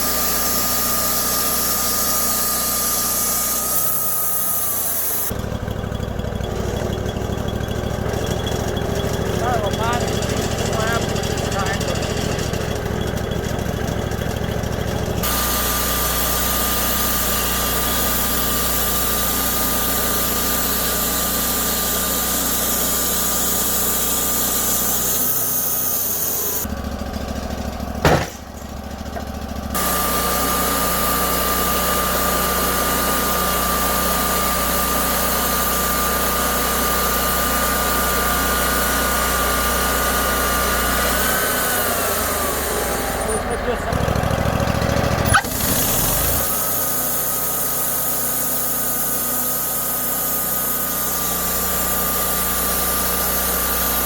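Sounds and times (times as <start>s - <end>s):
gasoline saw cutting wood: 0.0s - 54.0s.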